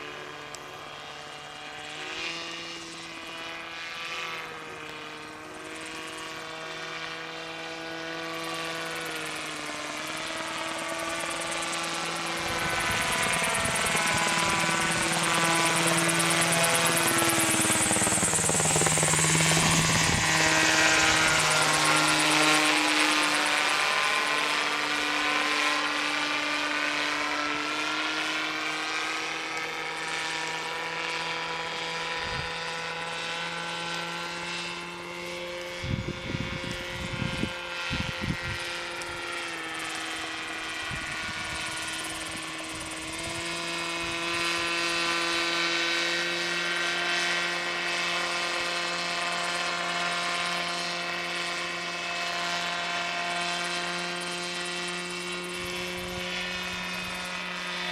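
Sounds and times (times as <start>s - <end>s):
model aircraft propeller droning: 0.0s - 57.9s.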